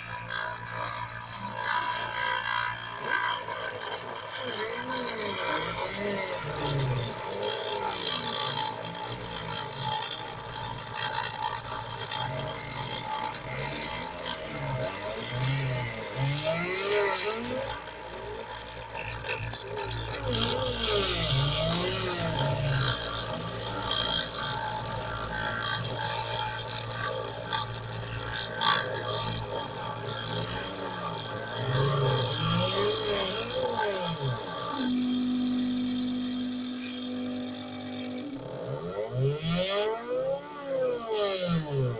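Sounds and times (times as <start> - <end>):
router cutter whine and rasp: 0.0 - 41.9
stepper motors humming: 0.0 - 41.9.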